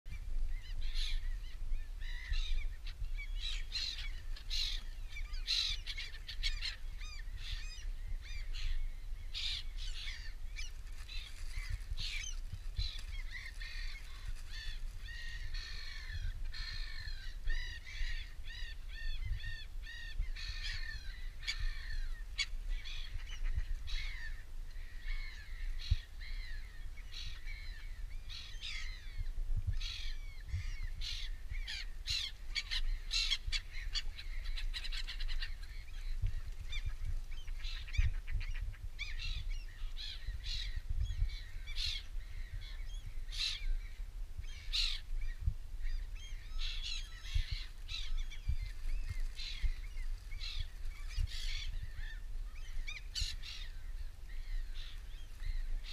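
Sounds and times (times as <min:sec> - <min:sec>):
birds calling: 0:00.1 - 0:55.9.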